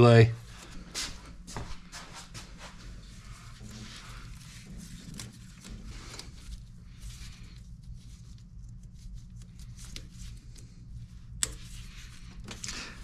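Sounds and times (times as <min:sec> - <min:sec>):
rustling: 0:00.5 - 0:11.0.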